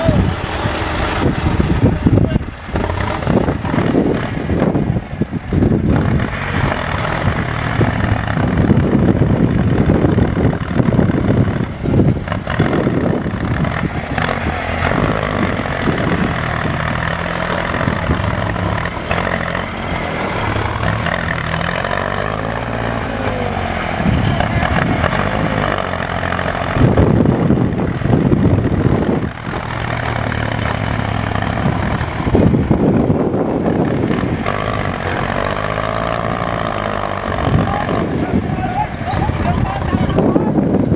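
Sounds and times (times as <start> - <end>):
tractor engine revving under load: 0.0 - 40.9.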